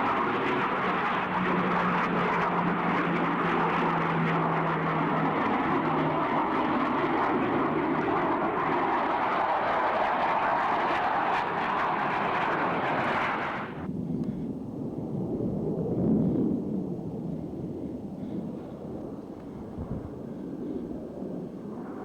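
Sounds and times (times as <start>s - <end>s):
jet roar: 0.0s - 22.0s.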